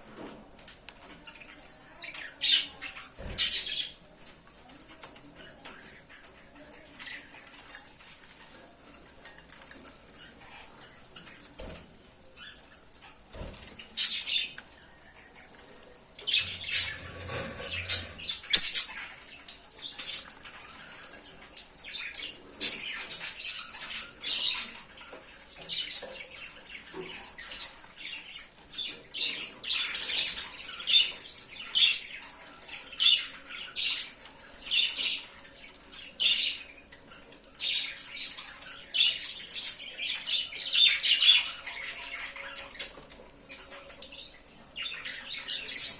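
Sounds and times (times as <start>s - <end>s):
lovebirds chirping and squawking: 1.0s - 45.9s.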